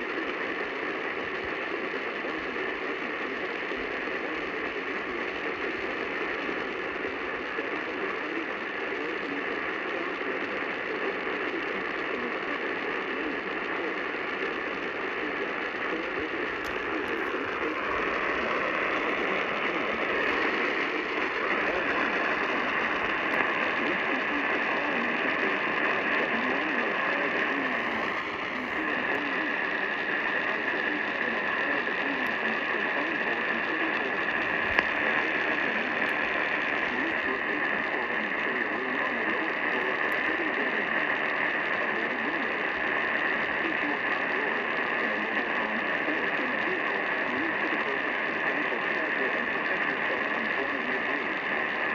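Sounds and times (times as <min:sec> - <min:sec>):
radio static hiss: 0:00.0 - 0:51.9.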